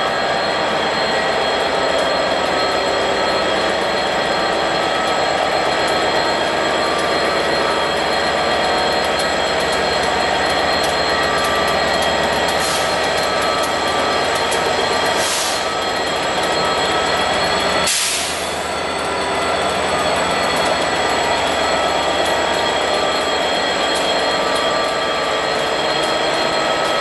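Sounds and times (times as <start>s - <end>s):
high steady whining tones: 0.0s - 27.0s
locomotive running: 0.0s - 27.0s.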